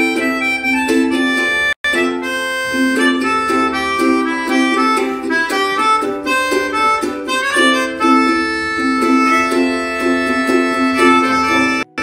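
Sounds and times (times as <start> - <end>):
melodica melody: 0.0 - 12.0
strummed ukulele: 0.0 - 12.0.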